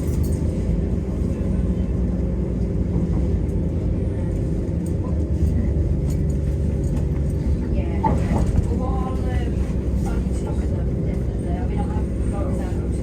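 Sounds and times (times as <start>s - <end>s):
constant low hum: 0.0s - 13.0s
diesel engine low rumble: 0.0s - 13.0s
train wheels on rails: 2.5s - 13.0s.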